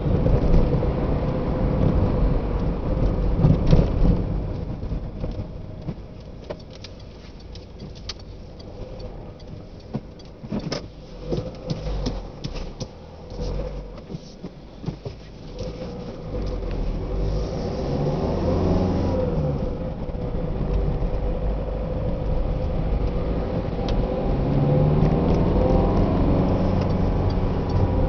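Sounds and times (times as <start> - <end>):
car engine: 0.0 - 28.0
road noise: 0.0 - 28.0.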